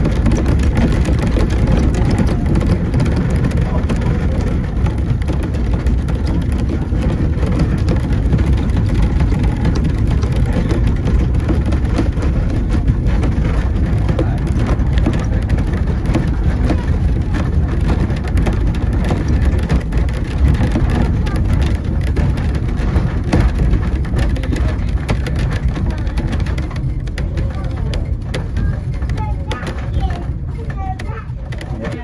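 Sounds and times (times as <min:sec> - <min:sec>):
train rumbling: 0:00.0 - 0:32.0
wheels clattering on rails: 0:00.0 - 0:32.0.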